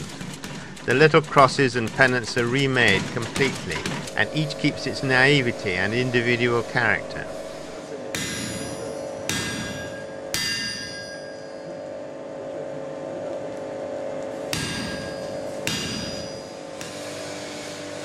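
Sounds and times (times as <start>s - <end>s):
hammer striking hot iron on anvil: 0.0s - 12.0s, 14.5s - 18.0s.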